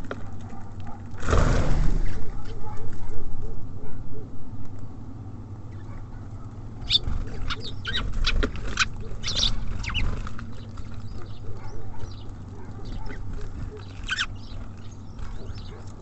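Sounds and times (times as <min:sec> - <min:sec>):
low background rumble: 0:00.0 - 0:16.0
songbirds chirping: 0:02.0 - 0:16.0.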